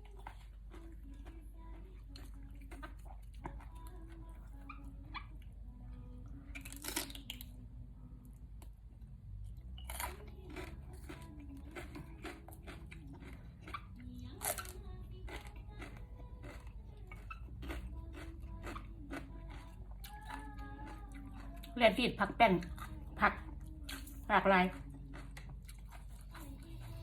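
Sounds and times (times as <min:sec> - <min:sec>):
chewing raw vegetables: 0:00.0 - 0:05.6, 0:06.4 - 0:07.6, 0:08.6 - 0:27.0.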